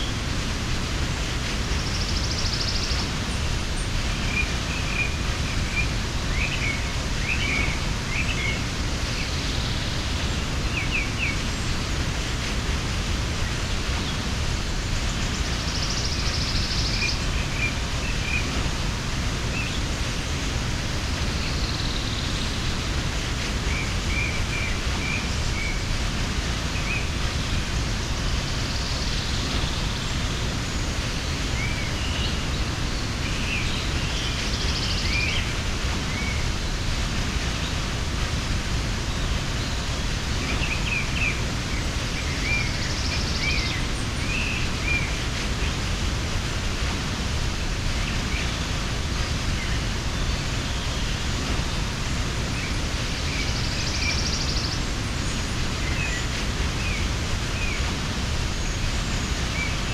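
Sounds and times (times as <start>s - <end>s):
small birds chirping: 0.0s - 59.9s
waterfall rushing: 0.0s - 59.9s.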